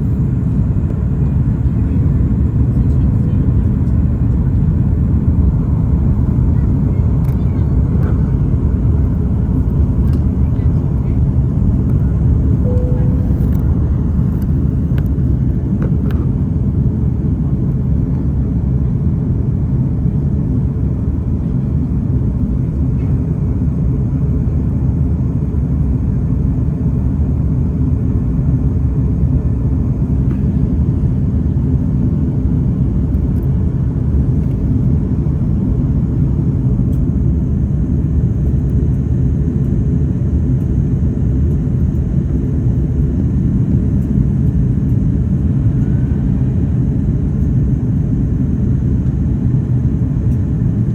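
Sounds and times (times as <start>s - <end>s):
airliner cabin low rumble: 0.0s - 50.9s.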